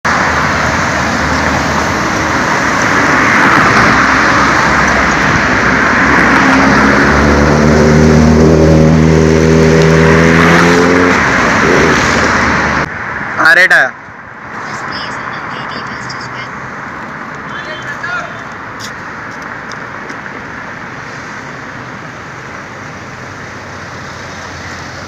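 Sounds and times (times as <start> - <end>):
traffic noise: 0.0 - 25.0.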